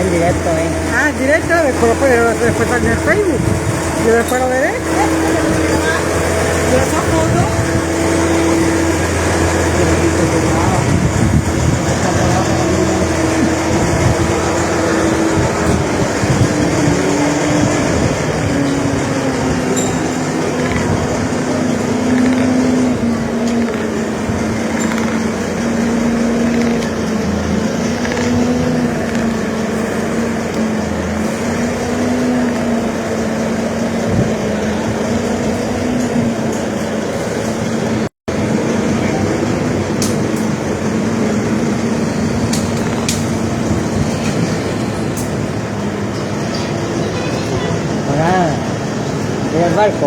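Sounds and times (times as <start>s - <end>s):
heavy vehicle engine drone: 0.0s - 50.0s
rumbling traffic noise: 0.0s - 50.0s.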